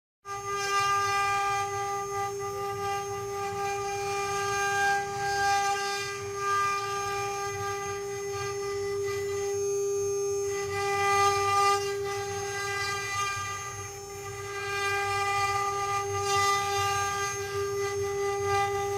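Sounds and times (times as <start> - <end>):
router spindle high whine: 0.3 - 18.9.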